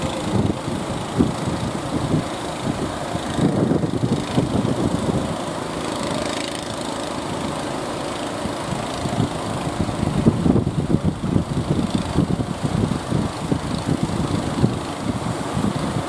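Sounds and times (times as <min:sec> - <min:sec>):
wind buffeting microphone: 0:00.0 - 0:07.6, 0:08.4 - 0:16.0
rough surf: 0:00.0 - 0:16.0
small boat engine running: 0:00.0 - 0:16.0.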